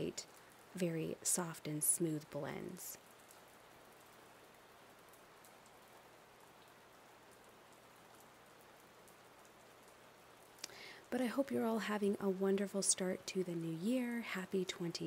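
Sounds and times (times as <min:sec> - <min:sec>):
faint room tone hiss: 0:00.0 - 0:15.0.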